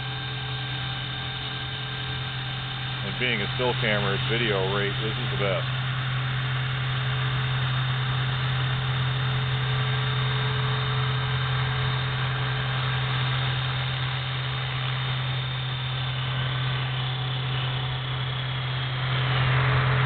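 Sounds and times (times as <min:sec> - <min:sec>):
rc helicopter hovering: 0:00.0 - 0:20.0.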